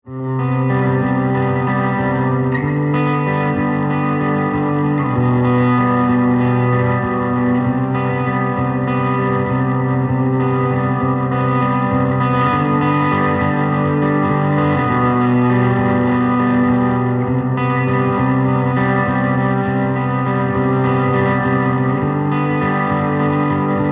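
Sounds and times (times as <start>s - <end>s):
distorted electric guitar: 0.0s - 23.9s.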